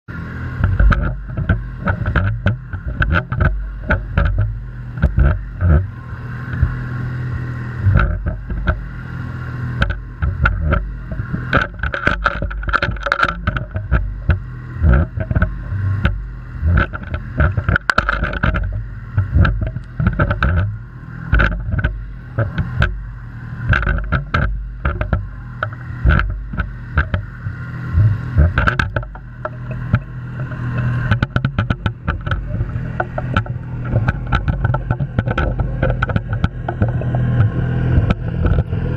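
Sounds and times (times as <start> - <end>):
boat motor whine underwater: 0.0 - 38.9
low underwater hum: 0.0 - 38.9
water thumping camera: 0.2 - 38.9.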